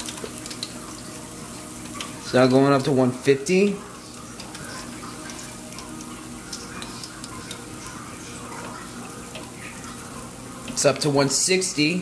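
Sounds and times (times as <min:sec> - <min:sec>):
hot oil sizzling in fryer: 0:00.0 - 0:12.0.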